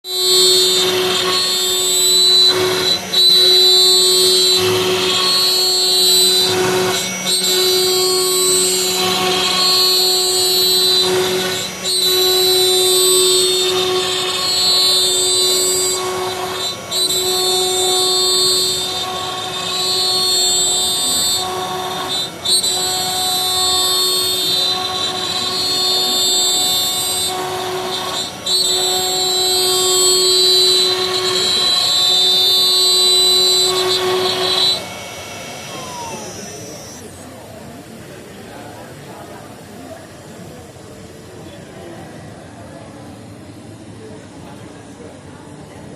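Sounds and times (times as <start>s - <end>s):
router motors whining: 0.0s - 45.1s.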